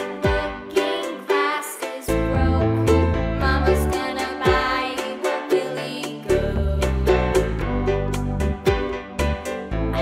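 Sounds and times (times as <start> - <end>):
children's background music: 0.0 - 10.0.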